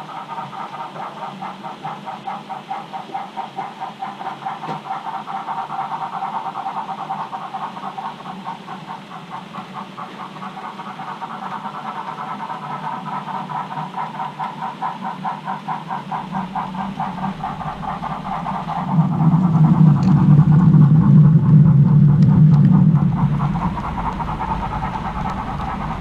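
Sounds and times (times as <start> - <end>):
model train humming and pulsing: 0.0 - 26.0.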